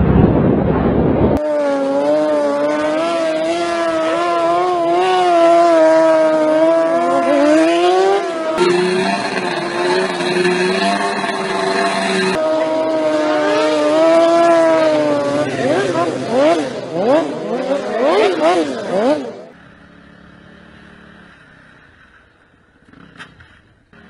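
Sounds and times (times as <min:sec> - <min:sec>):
second engine steady pitch: 0:01.4 - 0:23.0
motorcycle engine revving: 0:01.4 - 0:24.0.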